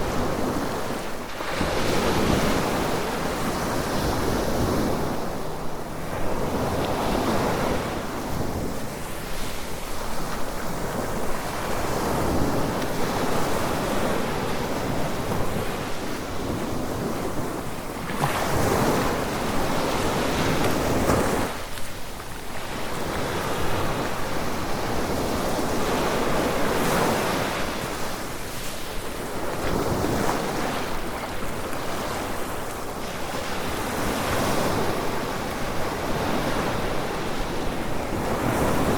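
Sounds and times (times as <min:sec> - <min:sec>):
surf washing onto beach: 0:00.0 - 0:38.9
wind: 0:00.0 - 0:38.9.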